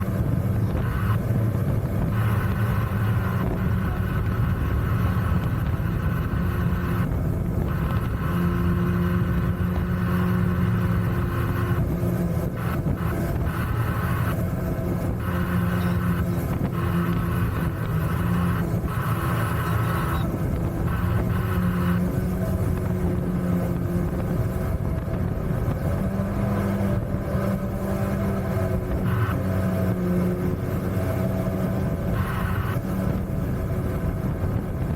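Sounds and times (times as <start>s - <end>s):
jet boat engine running: 0.0s - 34.9s
water wash and wind noise: 0.0s - 34.9s.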